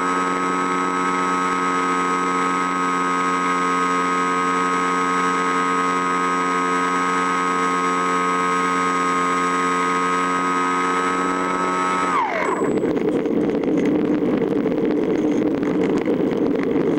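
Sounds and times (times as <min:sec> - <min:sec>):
engine droning steadily: 0:00.0 - 0:16.9
rougher noisier engine sound: 0:00.0 - 0:16.9.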